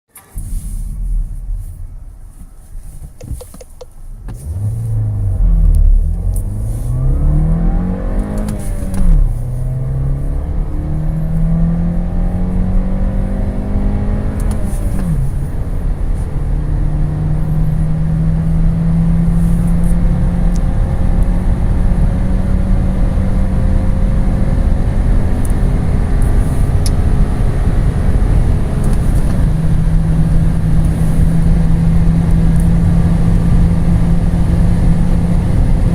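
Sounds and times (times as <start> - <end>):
car engine accelerating: 0.1 - 35.9.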